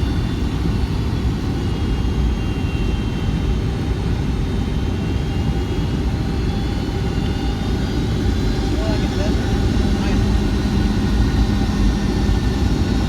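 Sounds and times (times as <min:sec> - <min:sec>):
faint high whine: 0:00.0 - 0:13.0
jet engine cabin rumble: 0:00.0 - 0:13.0.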